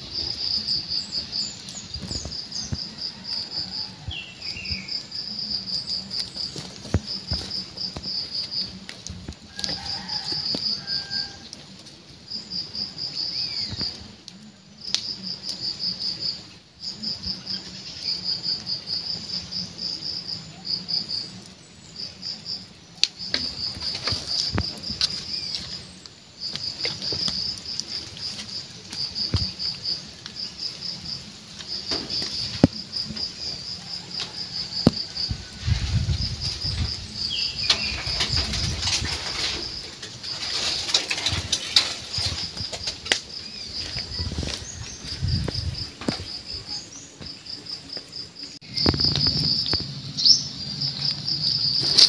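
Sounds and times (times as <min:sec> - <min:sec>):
insect chirping in pulsed trills: 0:00.0 - 0:11.6, 0:12.2 - 0:52.0.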